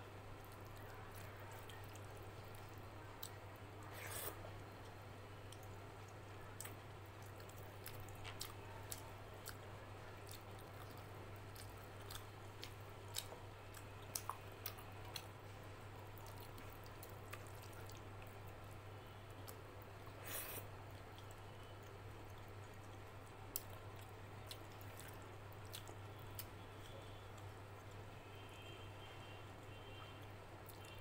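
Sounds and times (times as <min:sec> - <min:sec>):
wet squishing of rice mixing: 0:00.2 - 0:27.2
chewing: 0:00.4 - 0:15.4, 0:16.1 - 0:18.8, 0:19.4 - 0:28.0.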